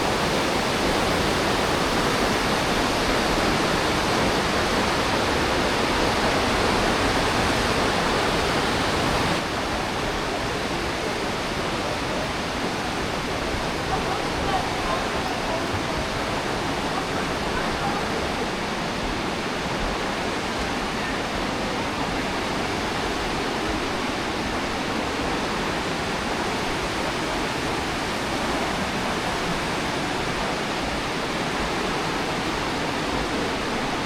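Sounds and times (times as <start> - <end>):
river rushing through gorge: 0.0 - 34.0.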